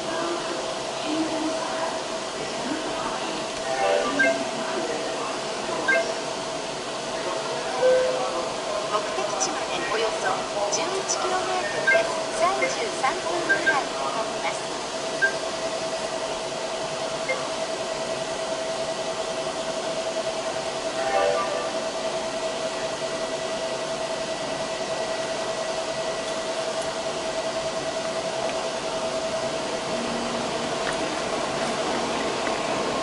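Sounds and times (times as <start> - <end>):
faint steady whine: 0.0 - 33.0.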